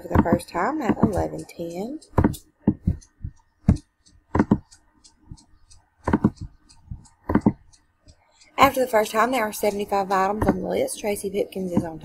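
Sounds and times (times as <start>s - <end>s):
computer mouse clicking: 0.0s - 12.0s.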